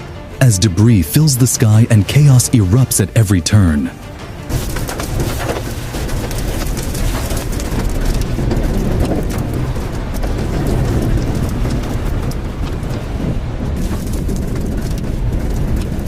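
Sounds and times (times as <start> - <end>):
rain: 0.0 - 3.1, 3.9 - 16.0
wind roaring and buffeting: 0.0 - 16.0.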